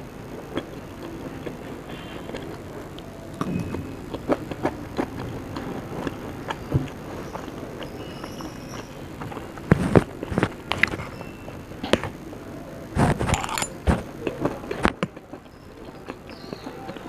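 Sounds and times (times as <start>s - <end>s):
crisp crunching and chewing: 0.4s - 12.3s, 12.9s - 17.0s.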